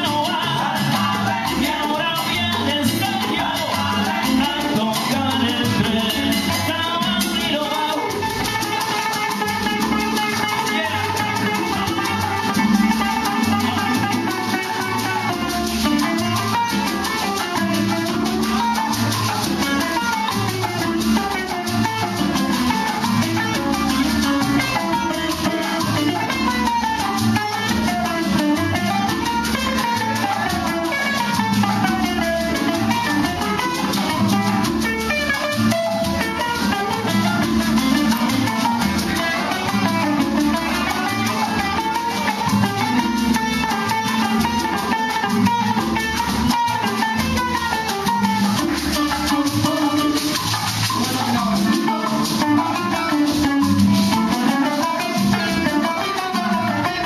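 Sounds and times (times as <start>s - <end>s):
hand percussion: 0.0s - 57.0s
maracas: 0.0s - 57.0s
plucked-string melody: 0.0s - 57.0s.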